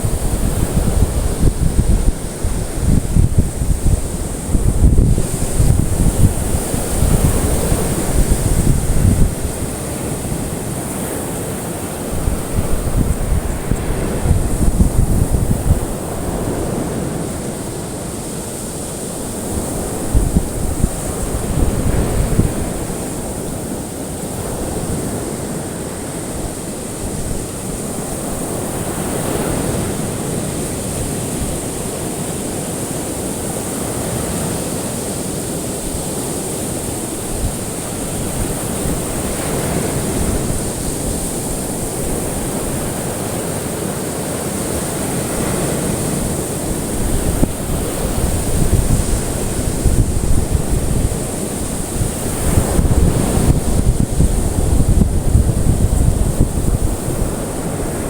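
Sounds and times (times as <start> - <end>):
high steady hiss: 0.0 - 58.0
ocean waves washing ashore: 0.0 - 58.0.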